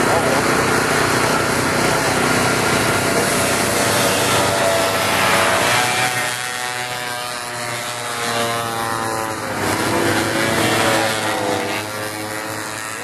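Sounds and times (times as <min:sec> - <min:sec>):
snowmobile engines passing at high revs: 0:00.0 - 0:13.0.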